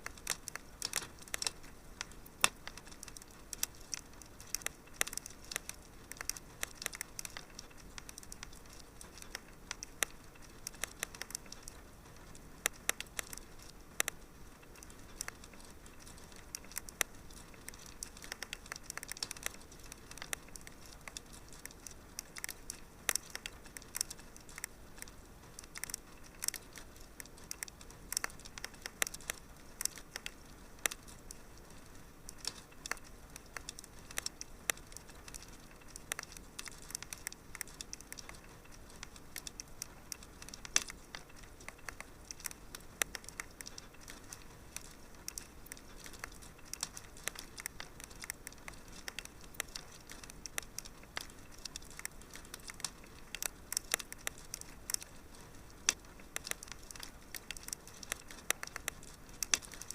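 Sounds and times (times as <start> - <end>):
low steady hiss: 0.0 - 59.9
wood fire crackling and popping: 0.0 - 59.9.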